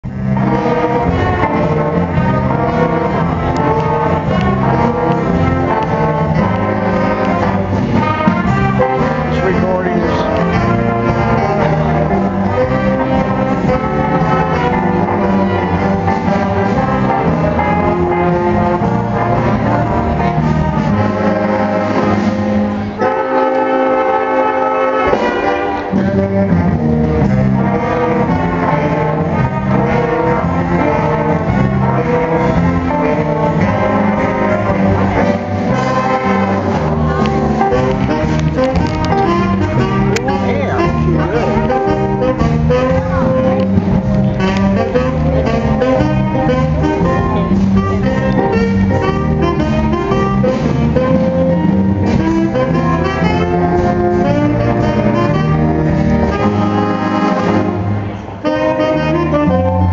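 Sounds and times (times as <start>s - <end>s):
big band jazz playing: 0.0s - 59.9s.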